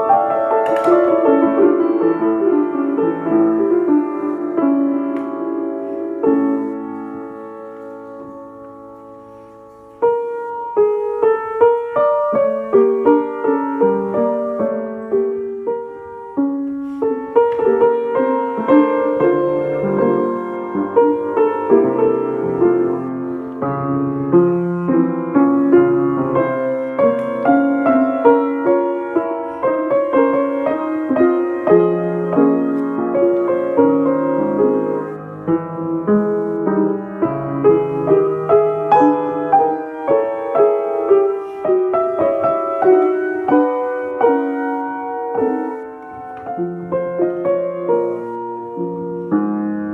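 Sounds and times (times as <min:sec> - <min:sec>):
piano playing: 0:00.0 - 0:49.9.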